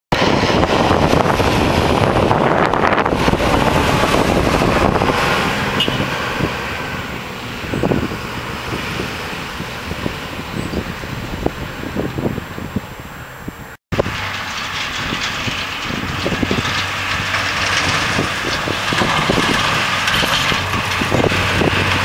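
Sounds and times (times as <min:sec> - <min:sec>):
tractor engine: 0:00.1 - 0:22.0
wind gusts on microphone: 0:00.1 - 0:22.0.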